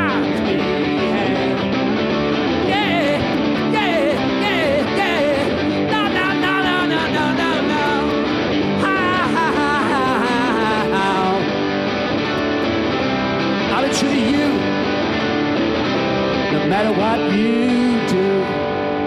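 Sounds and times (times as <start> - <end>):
electric guitar rock lead: 0.0 - 19.0.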